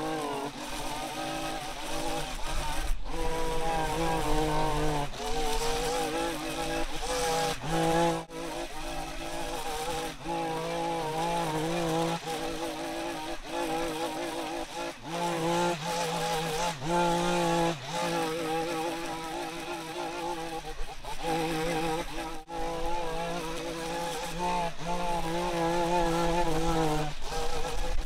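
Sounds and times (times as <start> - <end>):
small gas engine revving: 0.0 - 28.0.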